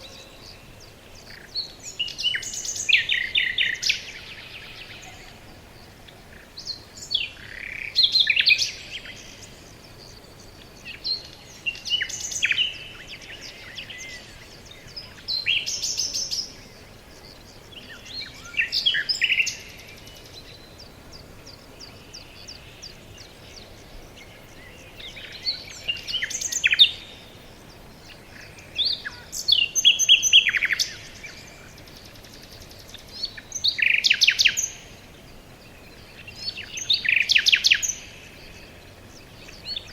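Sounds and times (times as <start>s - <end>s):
faint steady hiss: 0.0s - 39.9s
songbird song: 0.0s - 39.9s.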